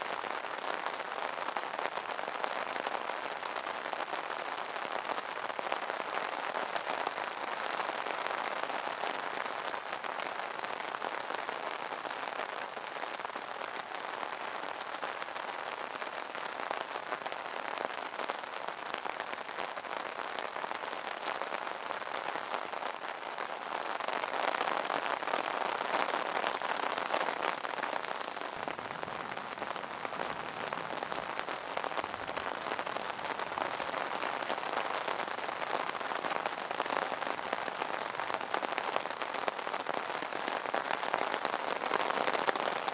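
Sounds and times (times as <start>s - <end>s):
rain on an umbrella: 0.0s - 42.9s.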